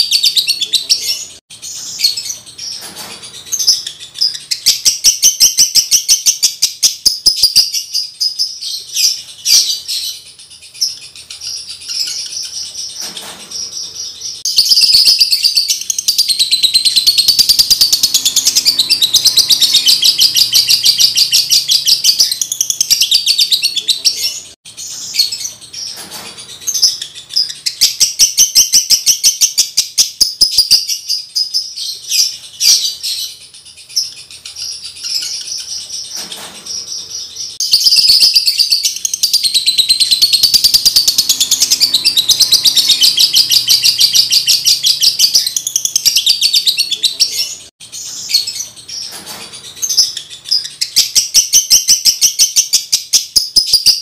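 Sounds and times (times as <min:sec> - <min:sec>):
lovebird chattering chirps: 0:00.0 - 0:54.0.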